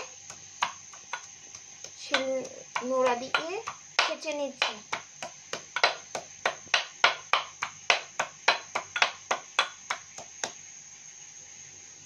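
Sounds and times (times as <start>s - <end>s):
stone pestle pounding ginger: 0.0s - 10.6s.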